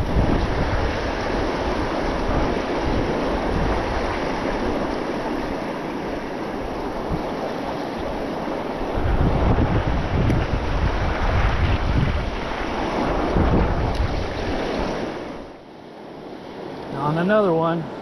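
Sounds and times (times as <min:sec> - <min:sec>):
wind buffeting the microphone: 0:00.0 - 0:15.6
flowing river water: 0:00.0 - 0:18.0.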